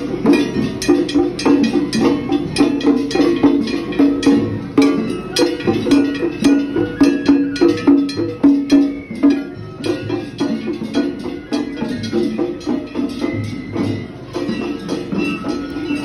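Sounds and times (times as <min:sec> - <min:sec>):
small hand gong clanking: 0:00.0 - 0:13.6
taiko drums beating: 0:00.0 - 0:16.0.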